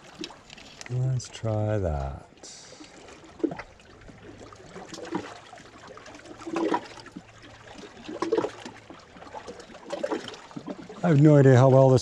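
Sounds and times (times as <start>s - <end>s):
small waves lapping on rocks: 0.0s - 12.0s
water splashes: 0.0s - 12.0s.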